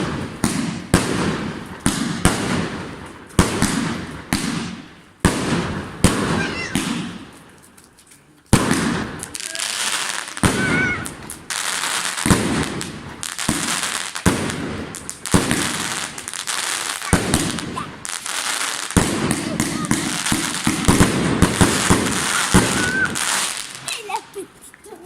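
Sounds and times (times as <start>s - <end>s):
firework bangs: 0.0s - 7.6s, 8.5s - 24.4s
fireworks crackling: 0.0s - 25.0s.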